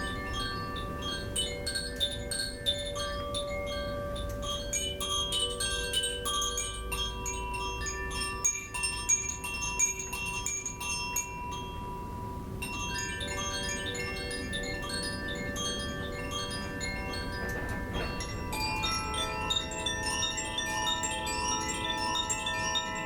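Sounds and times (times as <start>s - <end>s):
koshi chimes ringing: 0.0s - 23.0s.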